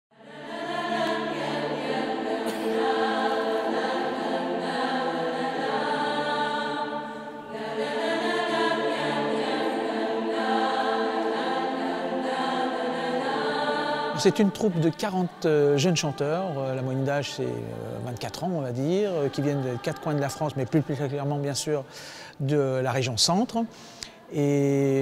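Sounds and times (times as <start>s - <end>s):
choir singing sustained chords: 0.1s - 25.0s.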